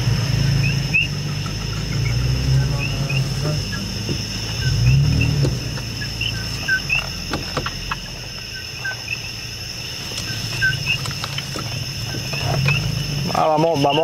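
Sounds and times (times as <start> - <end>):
frogs chirping: 0.0 - 14.0
high-pitched insect trill: 0.0 - 14.0
truck engine running: 0.0 - 14.0.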